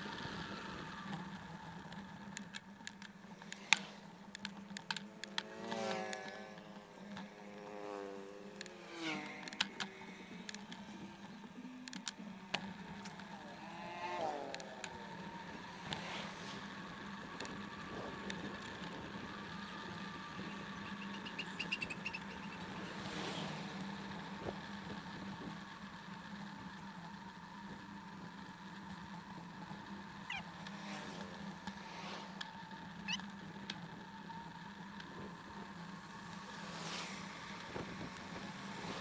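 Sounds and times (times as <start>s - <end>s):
motorcycle passing: 0.0s - 39.0s
road and wind noise: 0.0s - 39.0s
vehicles passing on road: 0.0s - 39.0s.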